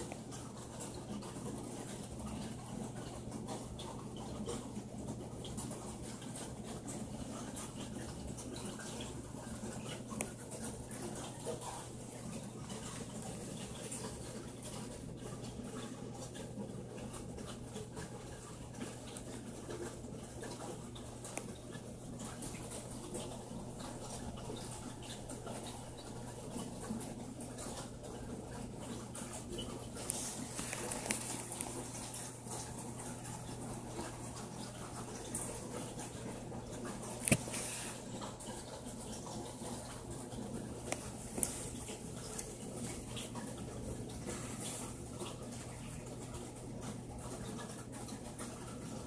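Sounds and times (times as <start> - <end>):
faint water wash: 0.0 - 49.0
low hum of aquarium equipment: 0.0 - 49.0.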